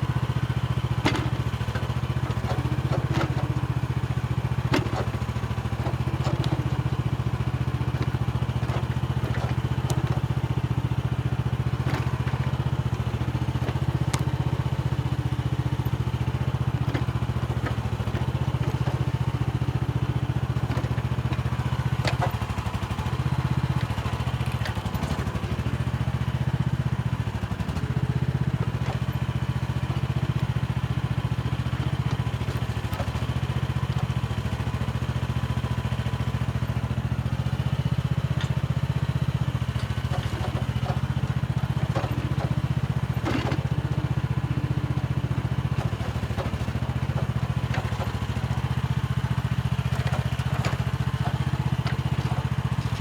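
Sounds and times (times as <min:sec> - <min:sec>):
excavator engine running: 0:00.0 - 0:53.0
machine knocks and clanks: 0:00.7 - 0:53.0.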